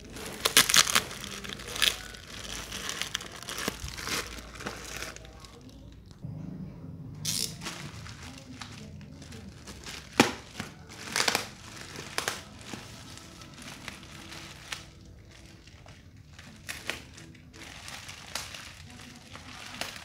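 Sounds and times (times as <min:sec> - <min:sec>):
plastic bag crinkling: 0:00.0 - 0:06.2, 0:07.3 - 0:20.0.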